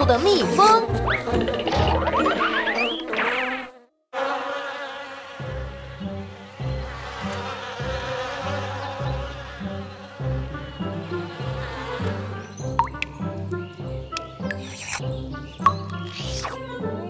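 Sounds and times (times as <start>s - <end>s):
cartoon bee swarm buzzing: 1.0s - 16.8s.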